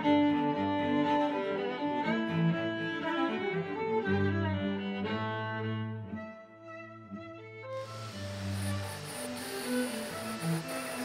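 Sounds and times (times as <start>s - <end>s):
lively fiddle jig: 0.0s - 6.2s, 7.0s - 11.0s.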